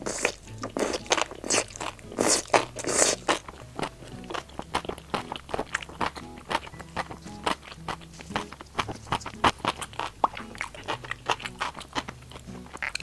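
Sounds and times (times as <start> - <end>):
crisp chewing: 0.0 - 13.0.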